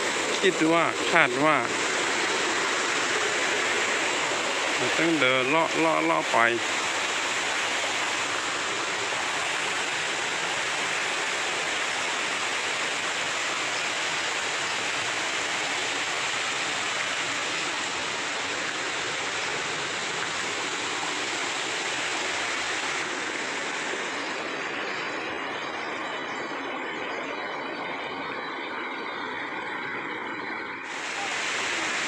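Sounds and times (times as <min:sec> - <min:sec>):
creek water flowing over rocks: 0:00.0 - 0:32.0.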